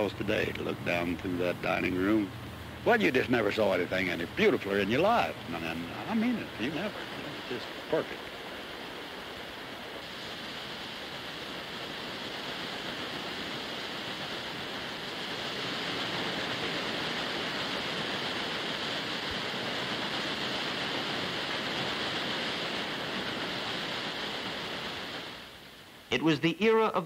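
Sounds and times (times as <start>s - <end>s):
paddlewheel churning water: 0.0s - 27.0s.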